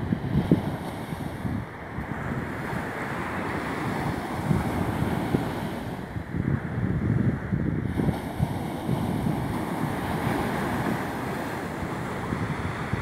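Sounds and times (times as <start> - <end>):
surf washing on shore: 0.0 - 13.0
wind buffeting microphone: 0.0 - 13.0.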